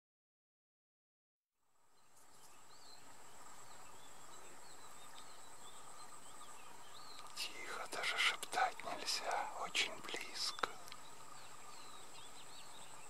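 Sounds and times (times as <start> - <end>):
insect drone: 1.6 - 13.0
soft hiss: 1.6 - 13.0
bird chirps: 2.0 - 13.0.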